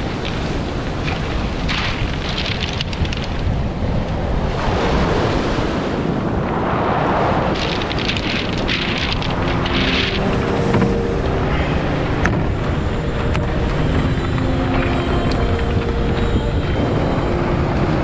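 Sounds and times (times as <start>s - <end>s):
beach pebbles rattling: 0.0s - 4.4s, 7.1s - 18.0s
surf breaking on pebble beach: 0.0s - 18.0s
wind buffeting microphone: 0.0s - 18.0s.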